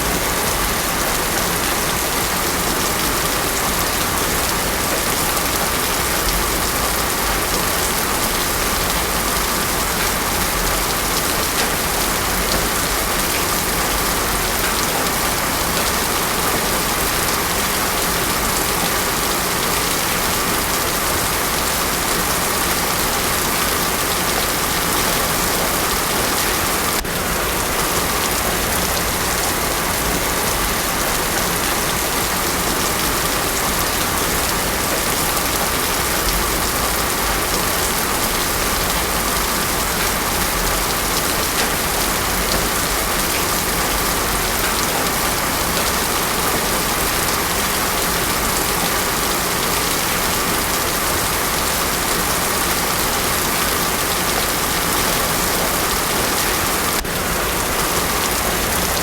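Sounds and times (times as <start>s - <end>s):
heavy rain on paved road: 0.0s - 59.0s.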